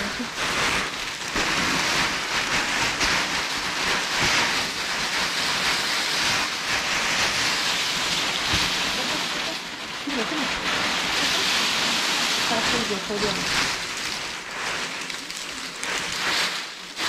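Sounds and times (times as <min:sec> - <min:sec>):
dry chips pouring: 0:00.0 - 0:17.0
plastic sack rustling: 0:00.0 - 0:17.0.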